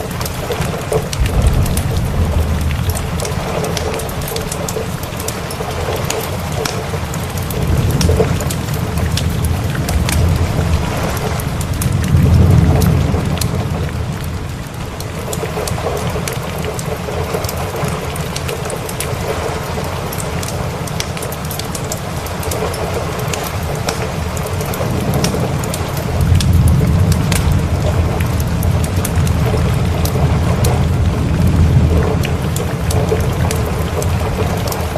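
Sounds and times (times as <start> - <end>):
rolling thunder: 0.0 - 18.2, 22.4 - 34.9
steady rain: 0.0 - 34.9
wood fire crackling: 0.0 - 34.9.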